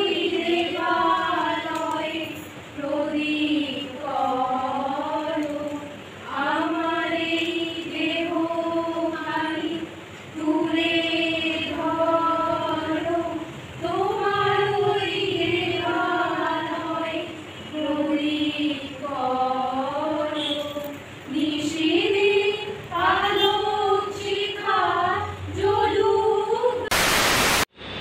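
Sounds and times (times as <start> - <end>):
women singing in unison: 0.0 - 26.9.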